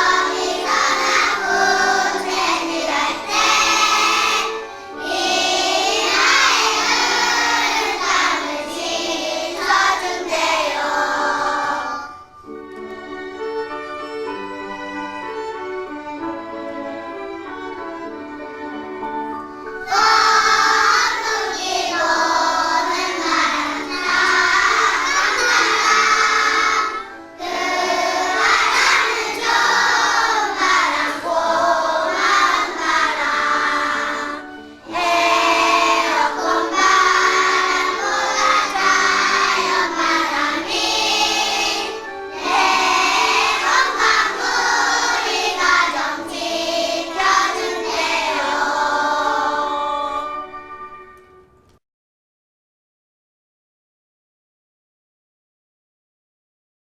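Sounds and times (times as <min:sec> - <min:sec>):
children's choir singing: 0:00.0 - 0:50.7
musical accompaniment: 0:00.0 - 0:51.8.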